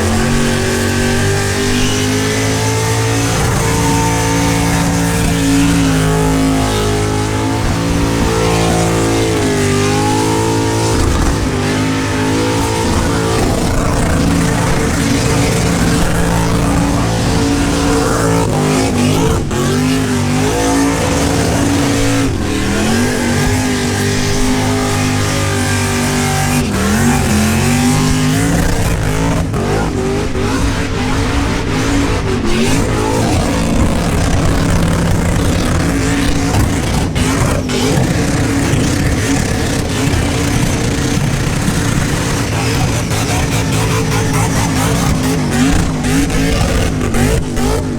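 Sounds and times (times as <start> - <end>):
engine revving high: 0.0 - 47.9
spinning tyres hissing: 0.0 - 47.9.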